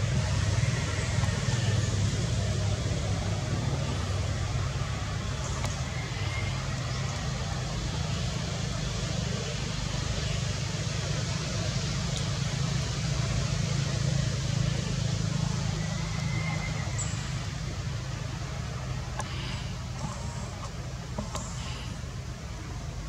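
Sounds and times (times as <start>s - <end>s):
low rumbling: 0.0s - 23.0s.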